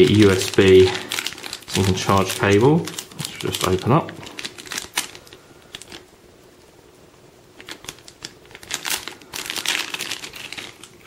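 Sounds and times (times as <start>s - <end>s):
plastic packaging crinkling: 0.0s - 6.2s, 7.5s - 11.0s.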